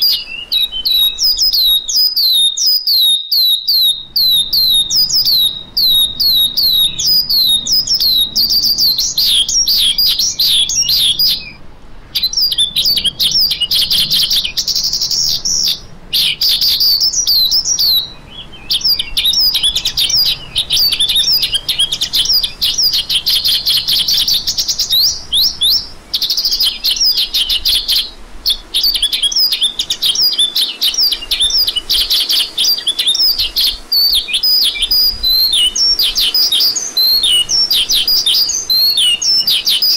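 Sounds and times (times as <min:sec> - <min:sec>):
bush lark song: 0:00.0 - 0:39.9.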